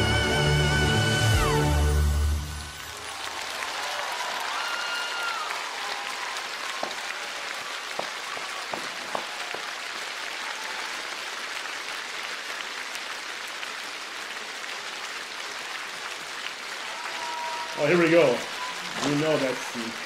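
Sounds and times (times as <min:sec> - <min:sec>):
audience applauding: 0:02.4 - 0:20.0.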